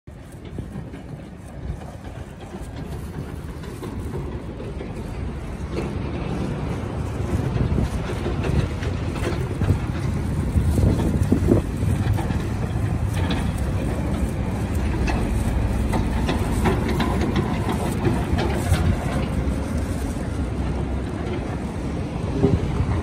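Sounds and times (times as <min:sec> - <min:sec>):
excavator engine rumble: 0:00.1 - 0:23.0.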